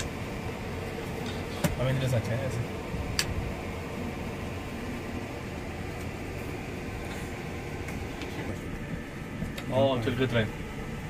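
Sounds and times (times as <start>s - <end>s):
train carriage rumble and hiss: 0.0s - 11.0s.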